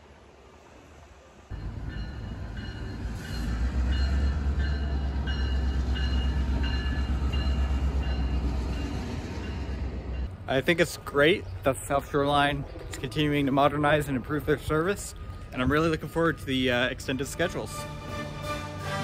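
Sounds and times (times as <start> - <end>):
diesel locomotives rumbling: 0.0 - 19.0.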